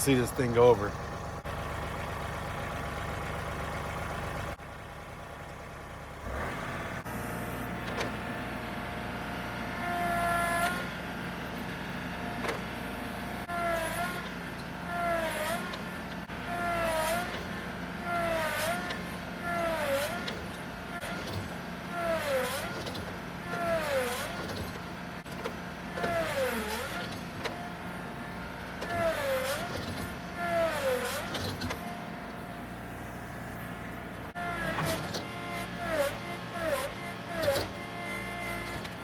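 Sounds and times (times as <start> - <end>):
tractor engine under heavy load: 0.0 - 39.0.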